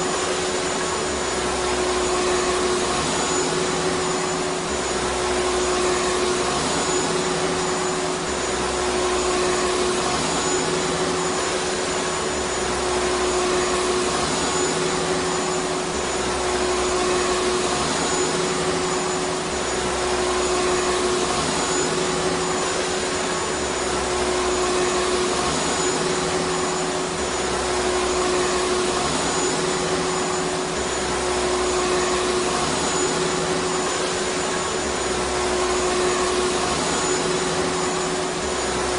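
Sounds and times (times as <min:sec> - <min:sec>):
vacuum cleaner motor running: 0:00.0 - 0:38.9.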